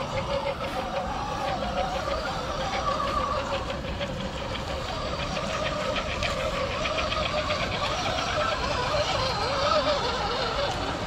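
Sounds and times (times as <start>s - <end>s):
quick run of ticks: 0.0s - 11.0s
rc car motor whining: 0.0s - 11.0s.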